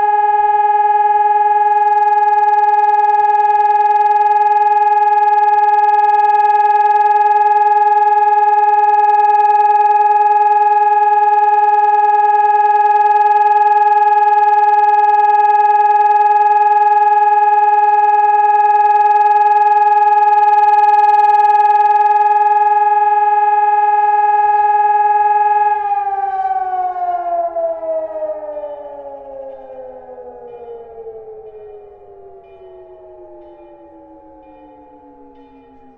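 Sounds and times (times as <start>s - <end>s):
civil defence siren steady tone: 0.0s - 35.9s.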